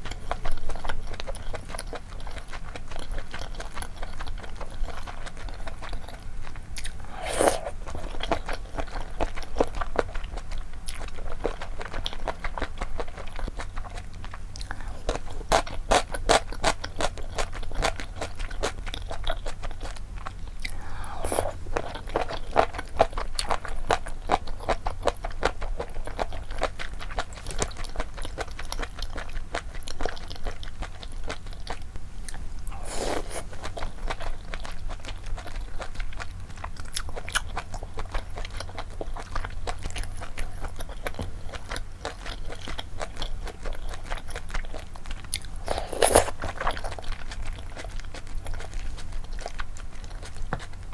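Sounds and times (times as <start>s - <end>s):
close chewing and biting: 0.0s - 50.9s.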